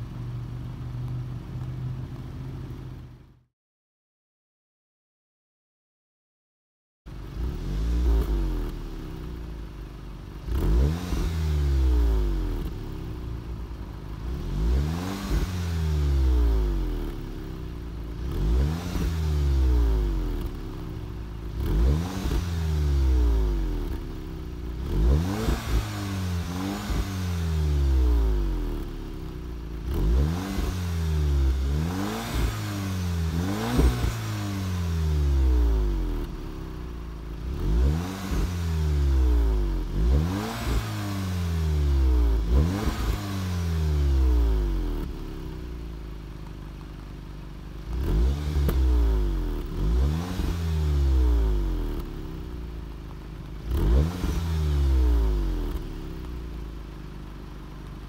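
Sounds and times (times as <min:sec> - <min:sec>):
car engine revving: 0:07.1 - 0:58.0.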